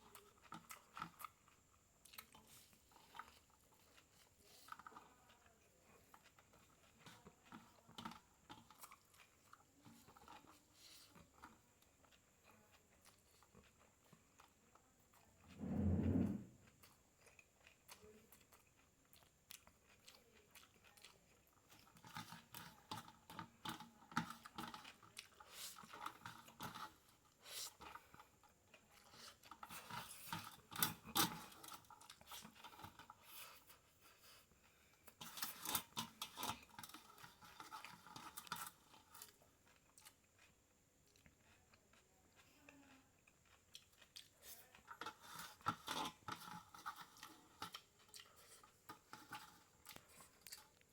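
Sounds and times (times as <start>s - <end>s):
person chewing noodles: 0.0s - 50.9s.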